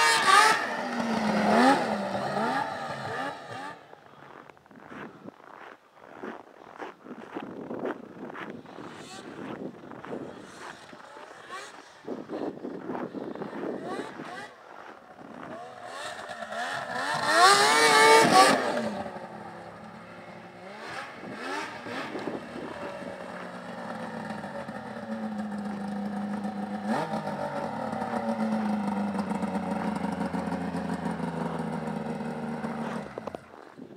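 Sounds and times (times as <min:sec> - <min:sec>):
snowmobile engine revving: 0:00.0 - 0:05.6, 0:08.3 - 0:33.7.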